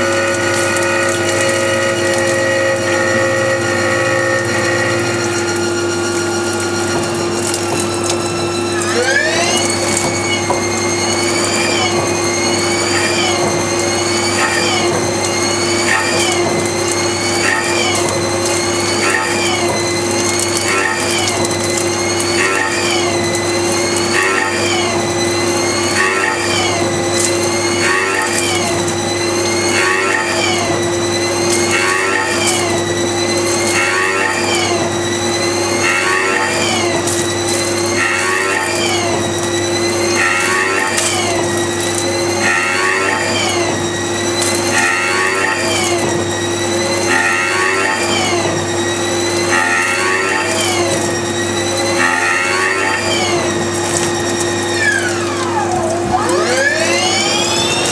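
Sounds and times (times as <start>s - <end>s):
lathe spindle whine: 0.0s - 57.9s.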